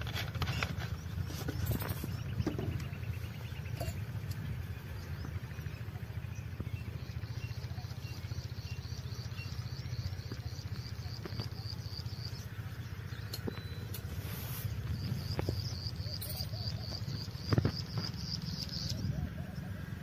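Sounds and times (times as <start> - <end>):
steady low rumble: 0.9 - 20.0.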